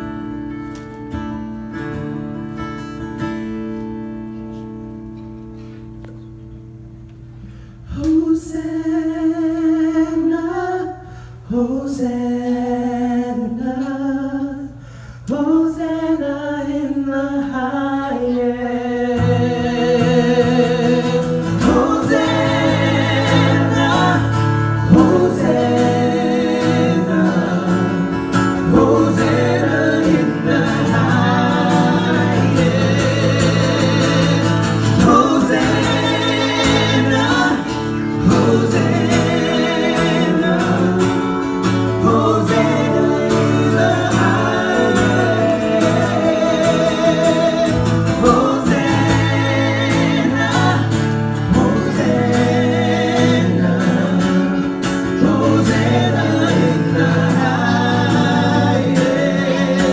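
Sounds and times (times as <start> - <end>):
voices singing: 7.9 - 59.9.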